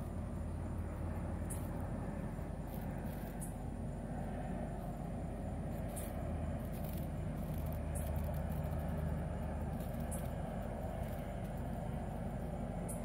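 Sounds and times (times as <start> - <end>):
motor humming and rumbling: 0.0 - 13.0.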